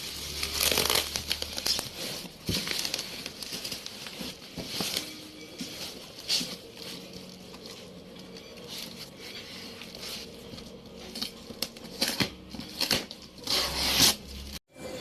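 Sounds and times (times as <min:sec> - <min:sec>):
packaging rustling and crinkling: 0:00.0 - 0:14.6.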